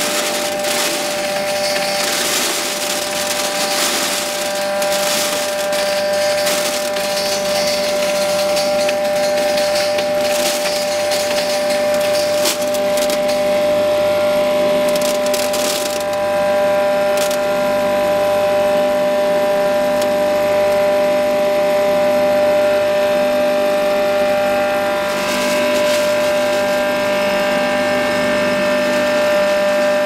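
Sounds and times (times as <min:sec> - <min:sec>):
grinding mill motor whine: 0:00.0 - 0:30.0.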